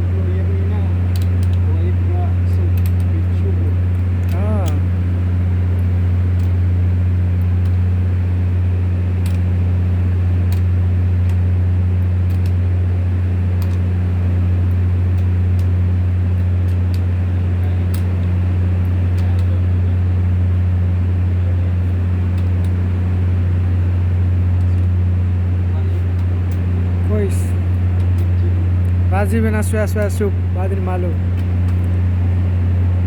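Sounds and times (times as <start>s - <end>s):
diesel generator engine misfiring: 0.0s - 33.0s.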